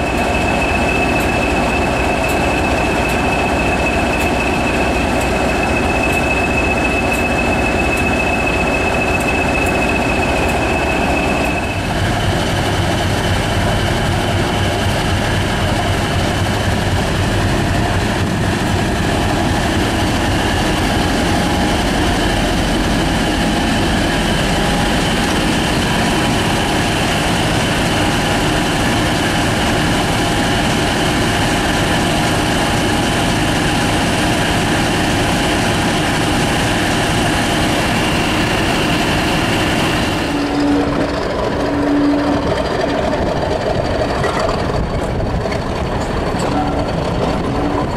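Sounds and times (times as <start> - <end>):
diesel locomotive engine running: 0.0 - 47.9.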